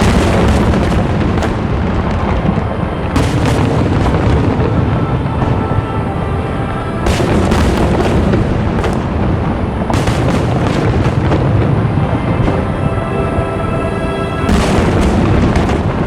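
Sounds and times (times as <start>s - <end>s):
fireworks booming: 0.0s - 16.0s
fireworks crackling: 0.0s - 16.0s
music with long held notes: 0.0s - 16.0s.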